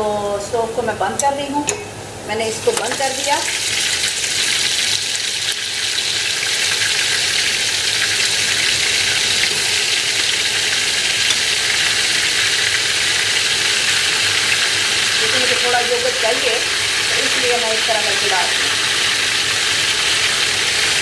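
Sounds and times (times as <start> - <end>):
onions sizzling in oil: 2.6 - 21.0.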